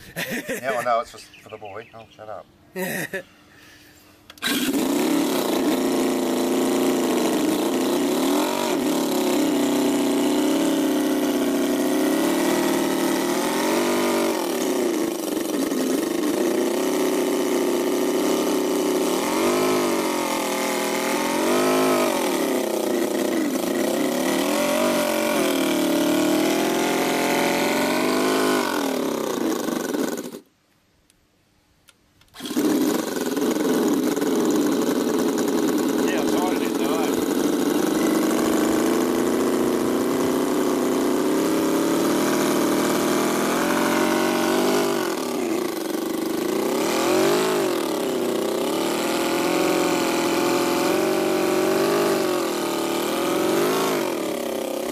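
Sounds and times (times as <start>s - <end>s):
model engine revving: 4.4s - 30.5s, 32.4s - 54.9s.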